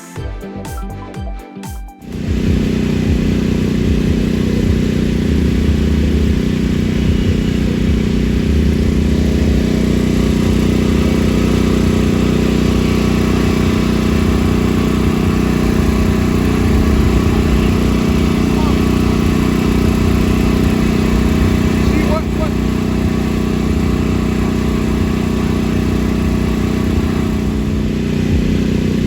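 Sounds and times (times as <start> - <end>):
motor humming: 2.0 - 29.0.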